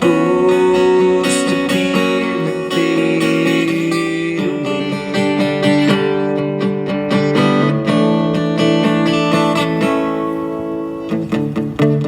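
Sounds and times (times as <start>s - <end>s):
person singing: 0.0s - 11.6s
acoustic guitar strumming: 0.0s - 12.0s.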